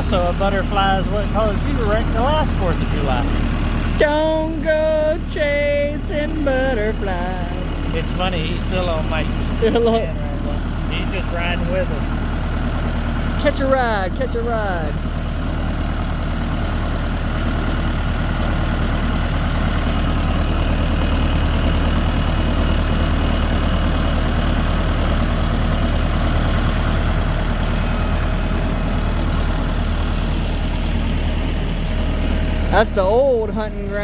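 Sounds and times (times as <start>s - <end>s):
vehicle engine running at low revs: 0.0s - 34.0s.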